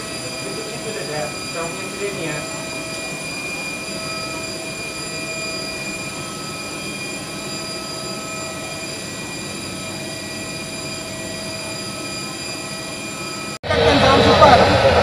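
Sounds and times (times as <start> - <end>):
thin high whines: 0.0 - 15.0.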